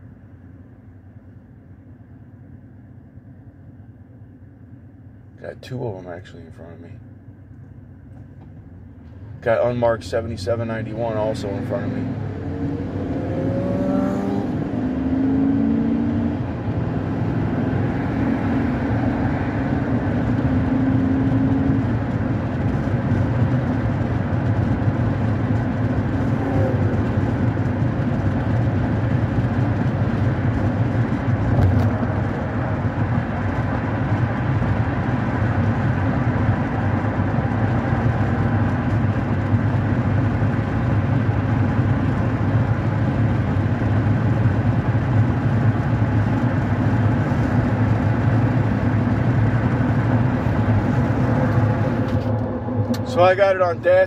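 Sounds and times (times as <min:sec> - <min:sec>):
road noise inside car: 0:00.0 - 0:54.0
car engine accelerating: 0:08.1 - 0:54.0.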